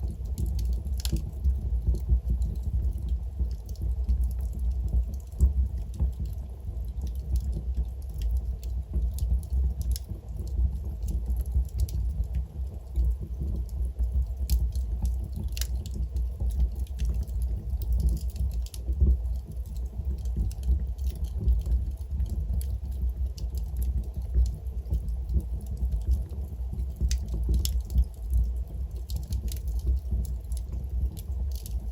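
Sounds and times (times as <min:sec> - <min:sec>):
logs crackling and popping: 0:00.0 - 0:31.9
low rumble of flames: 0:00.0 - 0:31.9.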